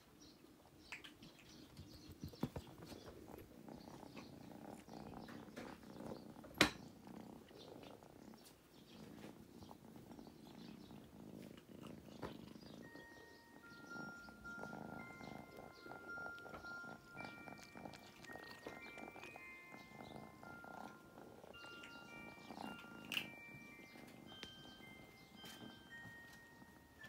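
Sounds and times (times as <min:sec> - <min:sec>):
cat purring: 0:00.5 - 0:27.0.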